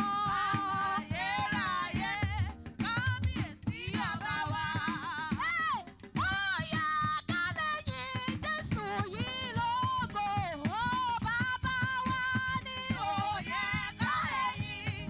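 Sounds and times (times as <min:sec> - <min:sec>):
band with steady drum beat: 0:00.0 - 0:15.0
woman singing gospel lead: 0:00.0 - 0:15.0.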